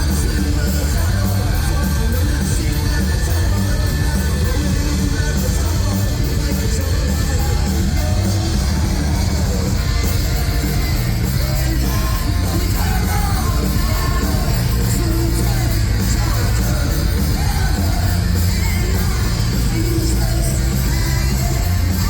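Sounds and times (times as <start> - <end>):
live rock band playing: 0.0 - 22.0
sung and shouted vocals: 0.0 - 22.0.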